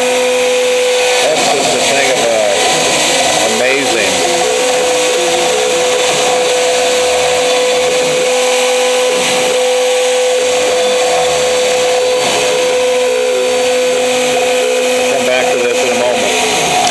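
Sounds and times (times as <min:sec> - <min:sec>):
hiss of cutting: 0:00.0 - 0:16.9
machine motors whirring: 0:00.0 - 0:16.9
router spindle whine: 0:00.0 - 0:16.9.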